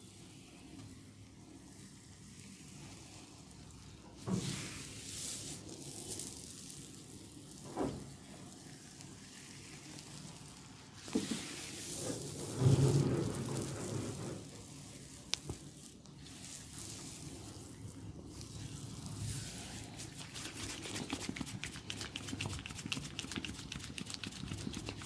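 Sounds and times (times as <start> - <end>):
hands rubbing oiled hair: 3.1 - 25.0.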